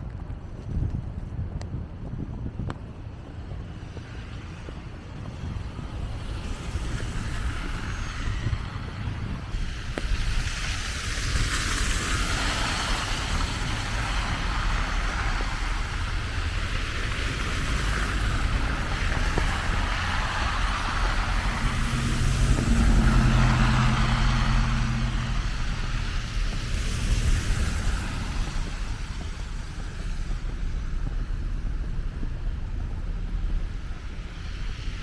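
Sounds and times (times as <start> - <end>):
vehicle engine hum passing: 3.4 - 35.0
tyres hissing on road: 4.0 - 35.0.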